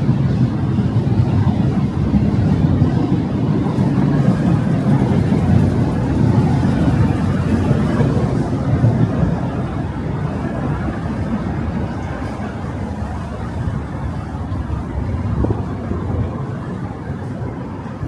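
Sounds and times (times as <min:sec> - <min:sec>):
engine rumbling: 0:00.8 - 0:17.4.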